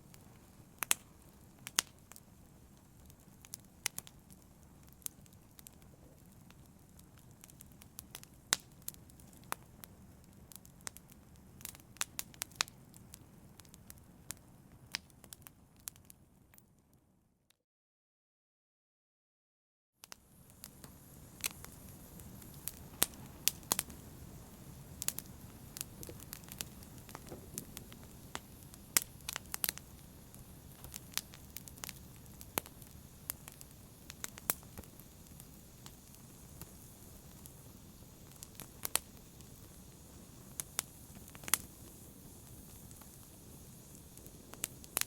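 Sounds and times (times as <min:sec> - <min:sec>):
low rumble of flame: 0:00.0 - 0:16.2, 0:20.1 - 0:45.0
wood fire crackling and popping: 0:00.0 - 0:16.6, 0:20.0 - 0:45.0.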